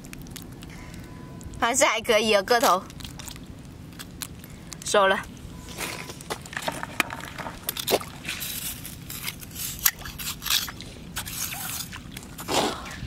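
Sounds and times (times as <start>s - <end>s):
wet squelching in mud: 0.0s - 4.9s, 5.6s - 13.0s
water sloshing: 0.0s - 13.0s.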